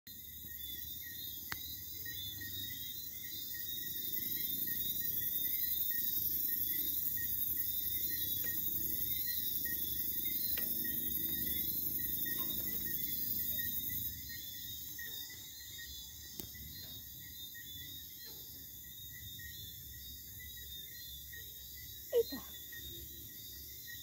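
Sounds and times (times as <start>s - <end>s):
insects chirping: 0.1s - 24.0s.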